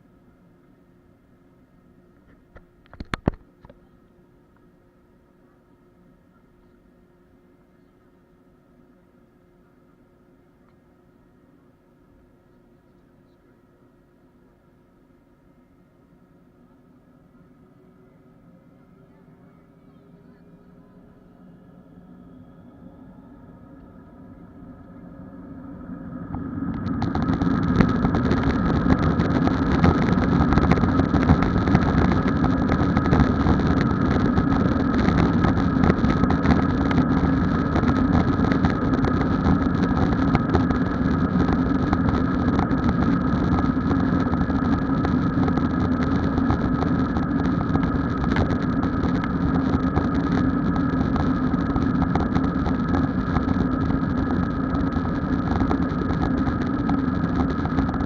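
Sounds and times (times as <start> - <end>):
aircraft cabin engine rumble: 1.4 - 58.0.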